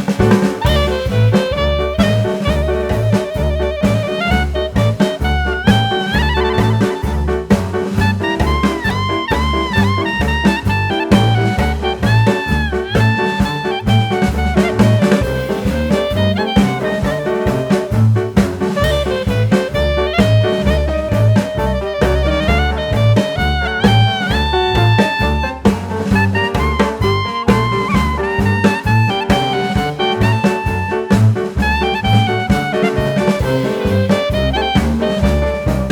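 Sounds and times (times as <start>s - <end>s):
jazz music with horns: 0.0s - 35.9s.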